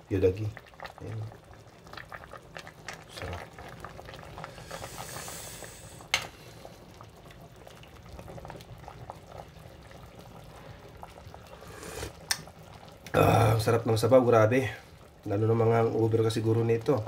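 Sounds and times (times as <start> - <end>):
soup bubbling with small pops: 0.0 - 17.0.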